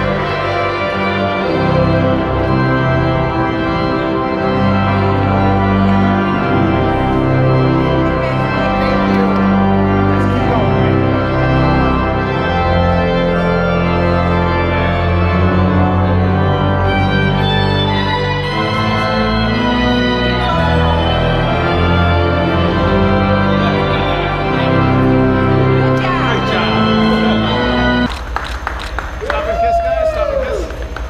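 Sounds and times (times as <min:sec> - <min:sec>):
organ chords: 0:00.0 - 0:28.4.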